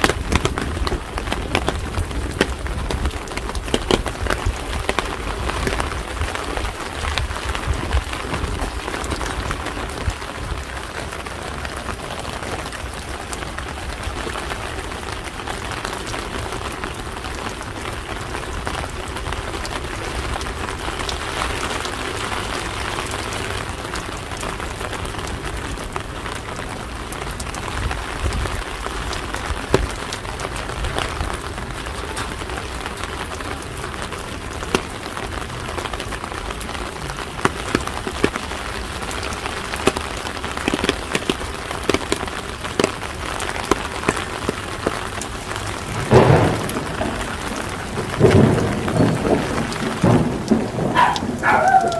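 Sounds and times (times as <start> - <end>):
rain on hard surfaces: 0.0 - 51.9.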